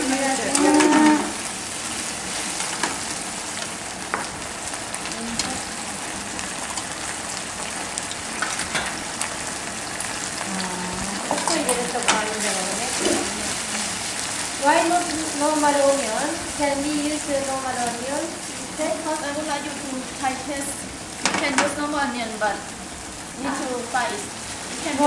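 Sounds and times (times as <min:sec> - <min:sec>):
tofu sizzling in oil: 0:00.0 - 0:25.0.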